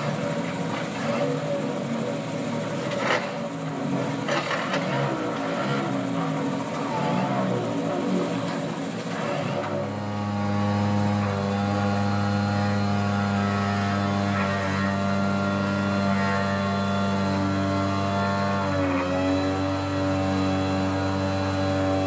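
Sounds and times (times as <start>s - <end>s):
piling rig diesel engines droning: 0.0s - 22.0s.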